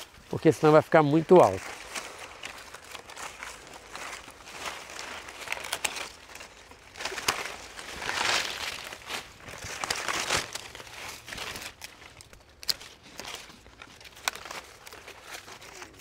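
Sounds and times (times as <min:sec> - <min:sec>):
branches rustling and crackling: 0:00.0 - 0:16.0.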